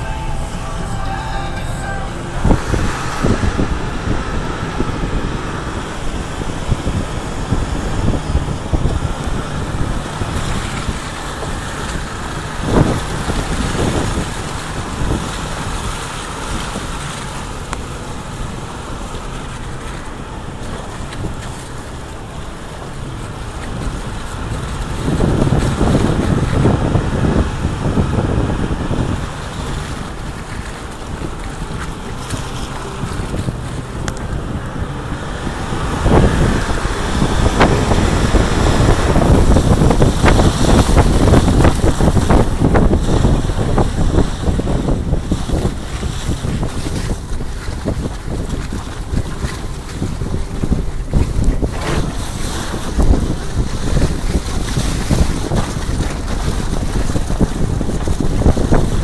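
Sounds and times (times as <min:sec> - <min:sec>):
vehicle rumble on rough road: 0:00.0 - 0:59.0.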